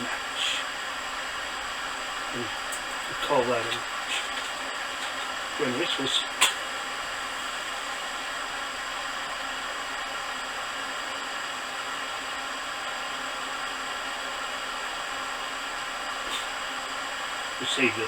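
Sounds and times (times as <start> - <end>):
burner flame hissing: 0.0 - 18.0.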